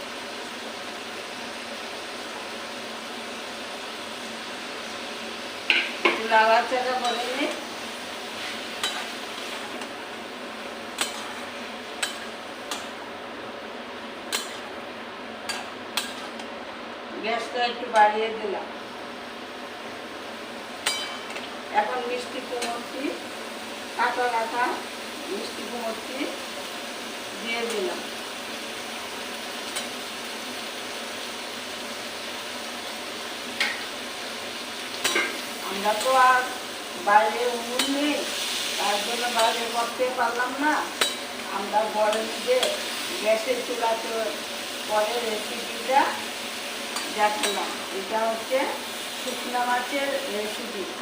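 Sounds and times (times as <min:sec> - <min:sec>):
hot oil sizzling: 0:00.0 - 0:51.0.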